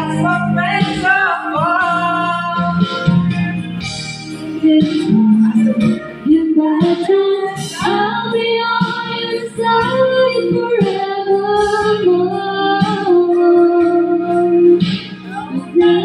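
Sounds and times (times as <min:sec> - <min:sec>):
woman singing into a microphone: 0:00.0 - 0:03.0, 0:04.5 - 0:16.0.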